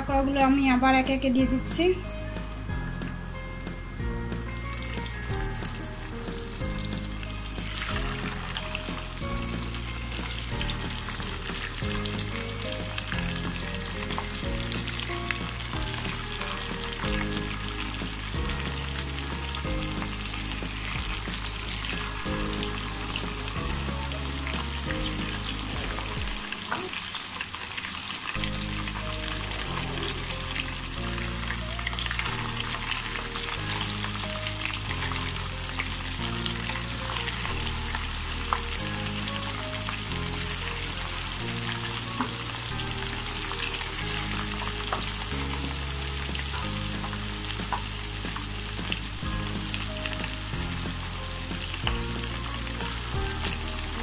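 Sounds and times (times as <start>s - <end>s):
low background music: 0.0s - 27.6s, 28.2s - 54.0s
food deep-frying in hot oil: 0.0s - 54.0s.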